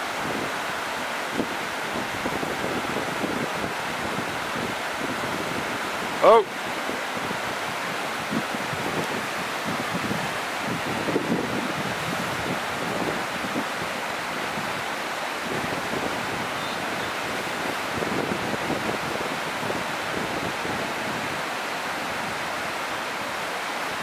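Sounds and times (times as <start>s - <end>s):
whitewater rapids rushing: 0.0s - 24.0s.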